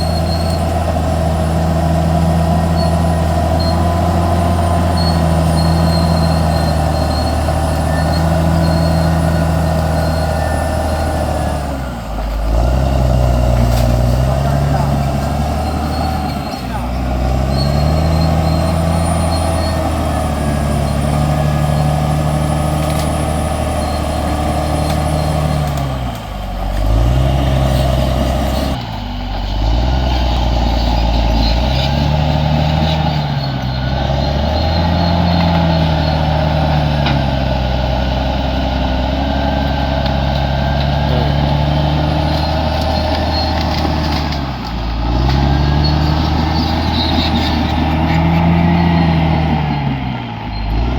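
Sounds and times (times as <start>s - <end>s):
bulldozer diesel engine: 0.0s - 50.9s.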